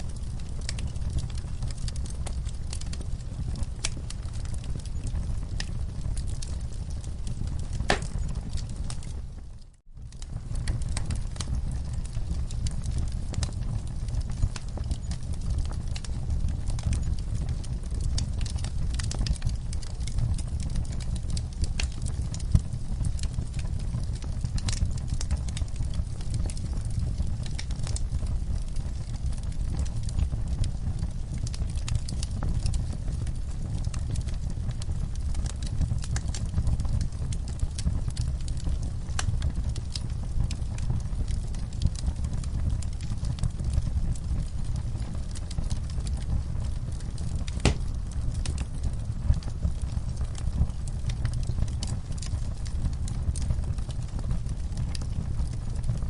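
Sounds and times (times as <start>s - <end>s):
fire low rumble: 0.0s - 56.0s
wood fire crackling and popping: 0.0s - 56.0s.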